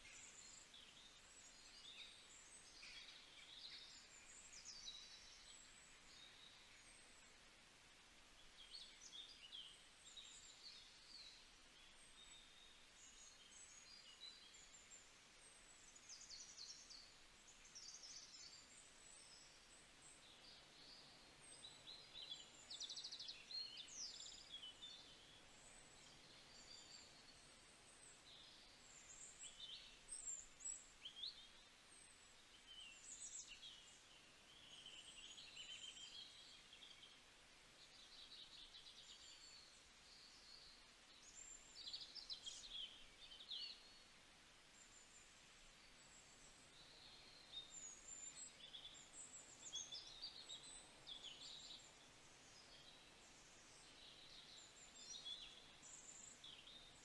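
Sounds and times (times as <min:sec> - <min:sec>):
small birds chirping and trilling: 0:00.0 - 0:07.4, 0:08.4 - 0:57.0.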